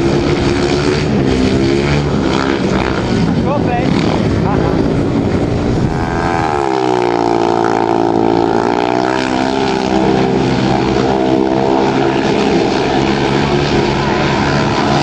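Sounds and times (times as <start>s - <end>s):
motorcycle engines running hard: 0.0s - 15.0s.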